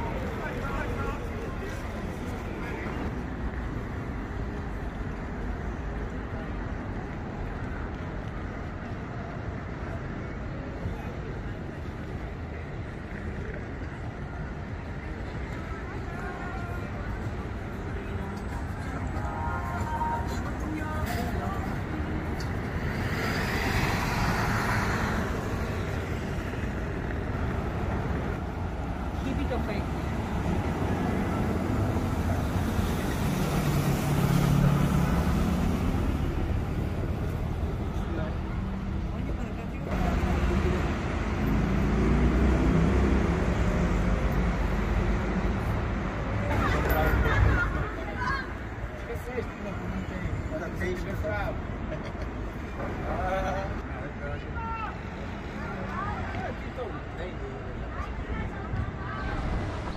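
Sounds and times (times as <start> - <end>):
faint voices: 0.0 - 41.3, 43.6 - 59.9
traffic noise: 0.0 - 59.9.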